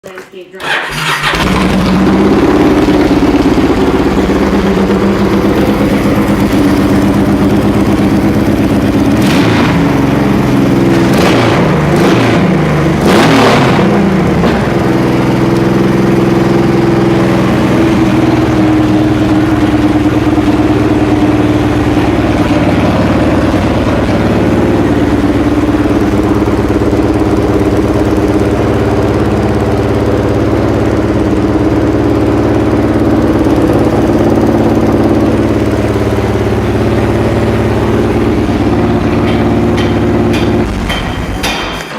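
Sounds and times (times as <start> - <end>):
motorcycle engine idling and revving: 0.6 - 41.9.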